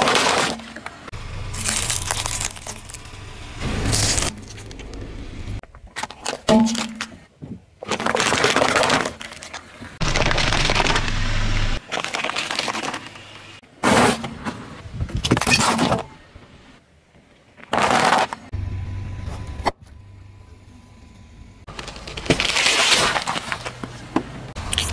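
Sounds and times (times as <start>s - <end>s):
objects crunching under car tyre: 0.0s - 16.1s, 17.6s - 18.6s, 21.7s - 24.9s.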